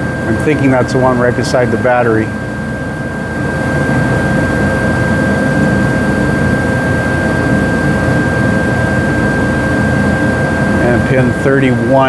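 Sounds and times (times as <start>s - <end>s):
mechanical drone with whine: 0.0s - 12.0s.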